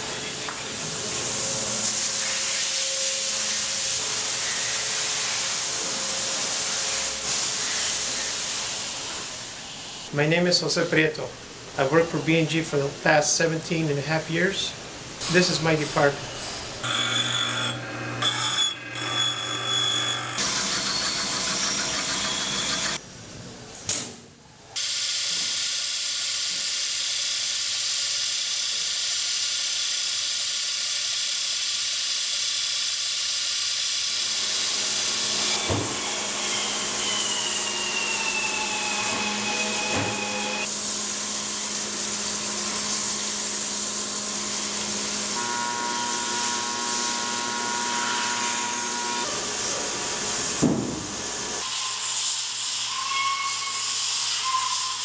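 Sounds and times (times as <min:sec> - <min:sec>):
machine tools hissing and humming: 0:00.0 - 0:10.2, 0:15.2 - 0:23.0, 0:24.8 - 0:55.0.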